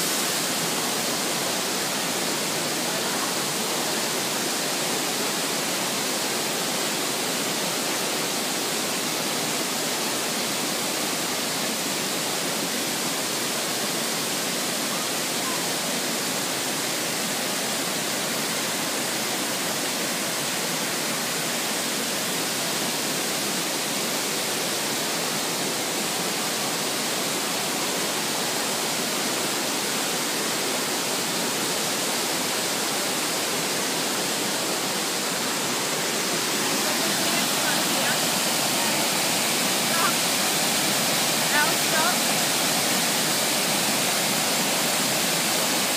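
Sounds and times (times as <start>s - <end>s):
water rushing over rocks: 0.0s - 45.9s.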